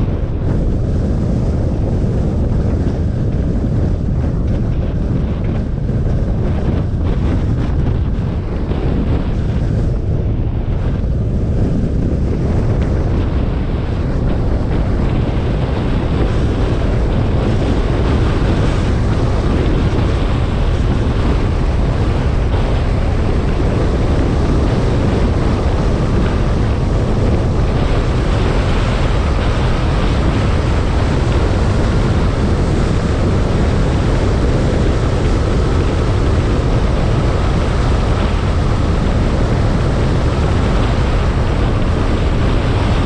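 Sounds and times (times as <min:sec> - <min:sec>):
car road noise: 0:00.0 - 0:43.0
wind buffeting microphone: 0:00.0 - 0:43.0.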